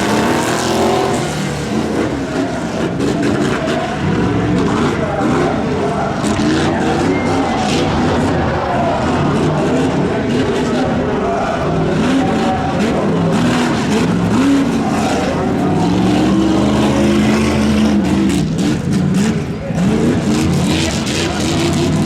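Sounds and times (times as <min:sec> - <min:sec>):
pickup truck engine revving: 0:00.0 - 0:22.0.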